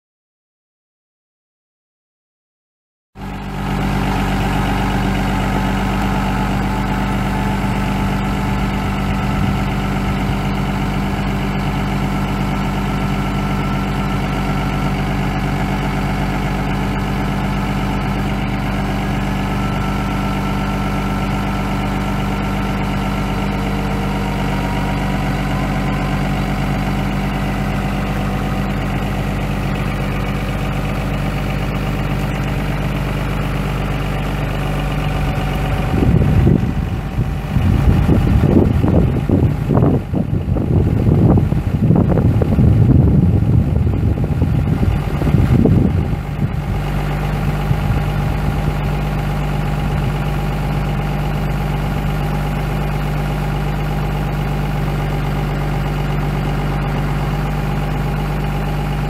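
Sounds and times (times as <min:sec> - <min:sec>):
diesel engine idling: 0:03.2 - 0:59.0.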